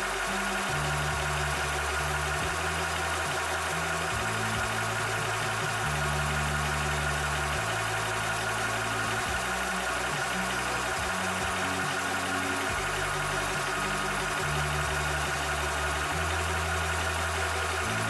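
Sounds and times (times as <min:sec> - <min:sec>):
air compressor running: 0:00.0 - 0:18.0.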